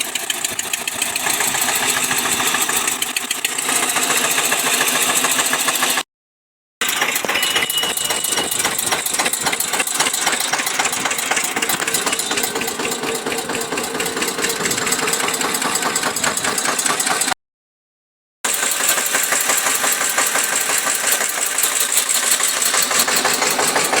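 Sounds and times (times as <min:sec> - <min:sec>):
tractor diesel engine chugging: 0:00.0 - 0:06.0, 0:06.8 - 0:17.4, 0:18.5 - 0:24.0.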